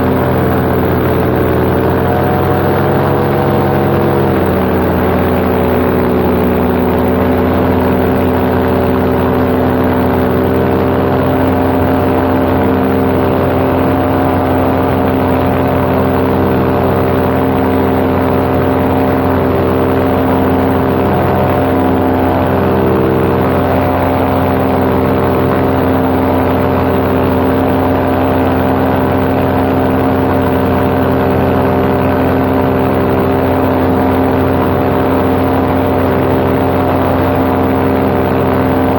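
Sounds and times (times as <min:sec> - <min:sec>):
paramotor engine and propeller drone: 0:00.0 - 0:38.9.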